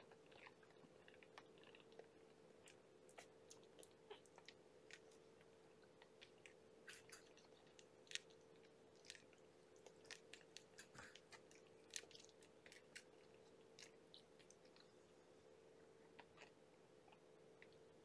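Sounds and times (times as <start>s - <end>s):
kittens suckling wet clicks: 0.0s - 14.9s
faint steady hum: 0.0s - 18.0s.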